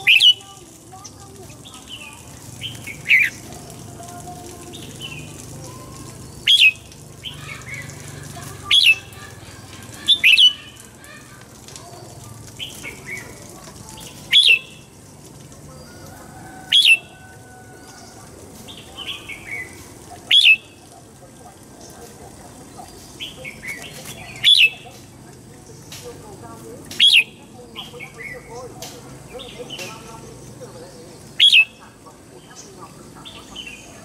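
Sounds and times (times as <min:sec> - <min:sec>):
bulbul song: 0:00.0 - 0:34.0.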